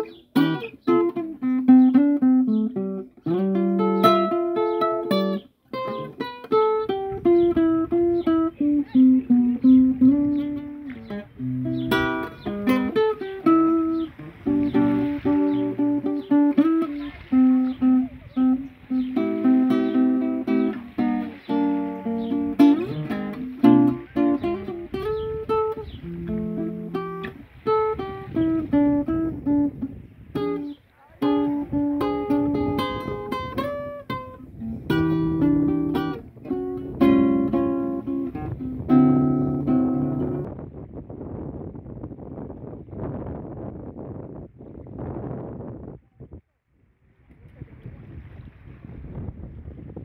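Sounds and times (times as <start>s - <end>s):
guitar playing notes and chords: 0.0s - 40.5s.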